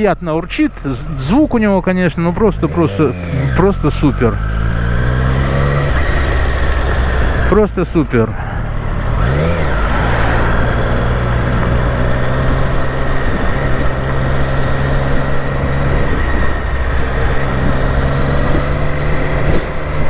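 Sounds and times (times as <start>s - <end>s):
motorcycle engine purring: 0.0s - 20.0s.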